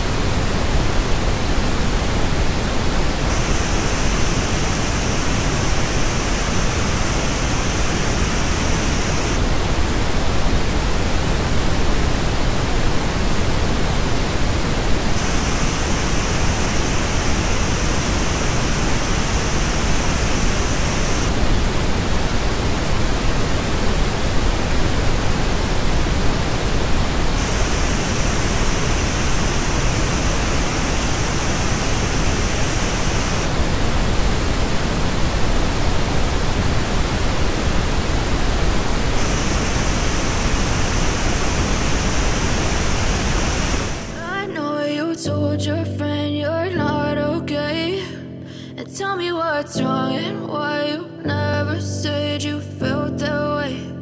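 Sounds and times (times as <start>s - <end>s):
steady pink noise: 0.0s - 54.0s.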